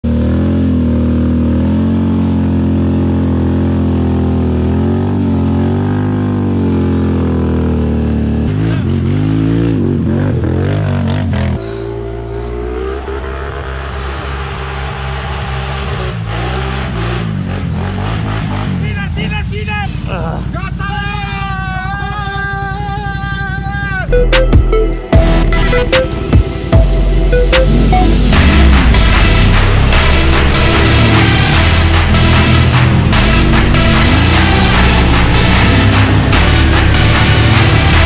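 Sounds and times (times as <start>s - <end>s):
atv engine revving: 0.0s - 24.1s, 25.3s - 38.0s.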